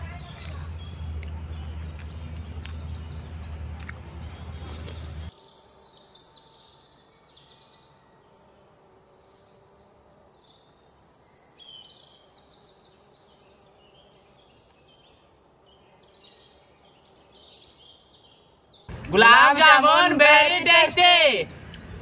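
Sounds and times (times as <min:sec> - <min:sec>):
birds chirping: 0:00.0 - 0:09.6, 0:10.3 - 0:22.0.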